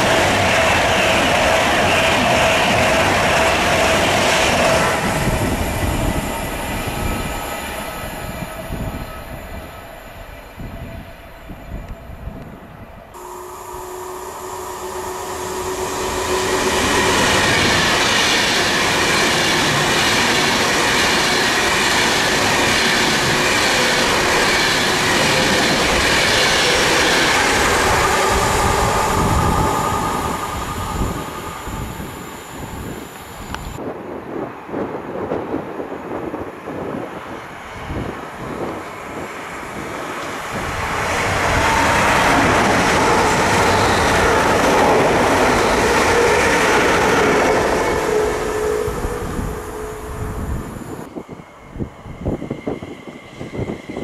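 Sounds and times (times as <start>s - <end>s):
train passing with whine: 0.0s - 54.0s.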